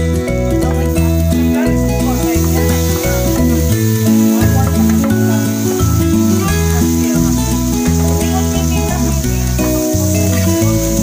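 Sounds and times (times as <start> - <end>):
background music with held notes: 0.0 - 11.0
pork sizzling in hot oil: 0.0 - 11.0.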